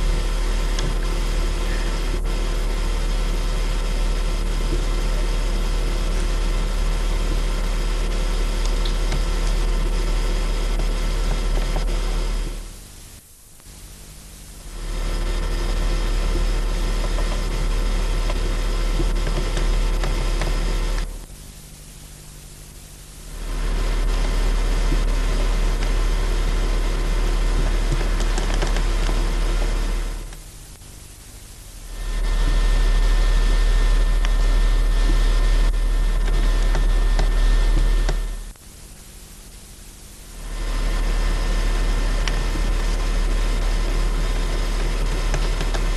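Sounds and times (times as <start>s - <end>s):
low mains hum: 0.0s - 45.9s
videotape hiss: 0.0s - 45.9s.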